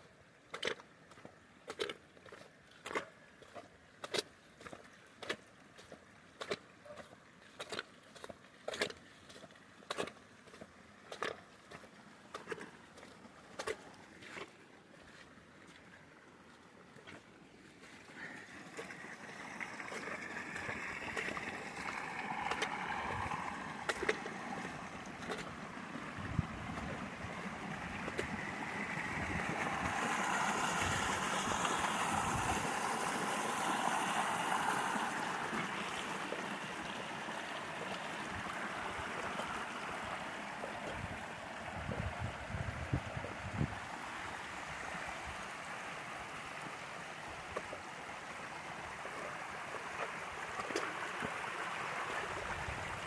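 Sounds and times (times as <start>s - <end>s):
floodwater rushing: 7.3s - 53.0s.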